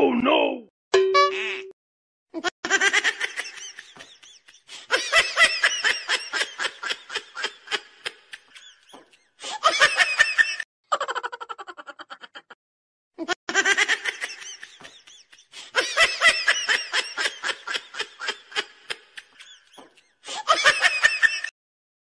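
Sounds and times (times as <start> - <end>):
hearty laughter: 2.4 - 12.6, 13.2 - 21.5.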